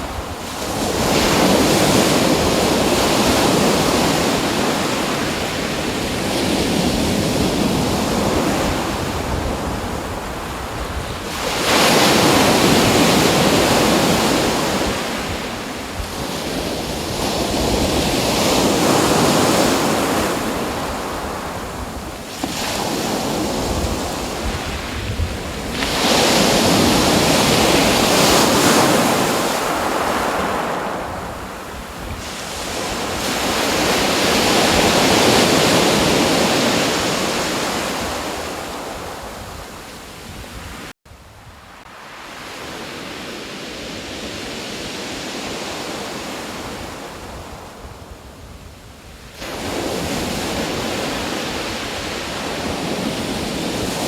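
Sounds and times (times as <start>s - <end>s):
ocean waves washing onto shore: 0.0s - 54.0s.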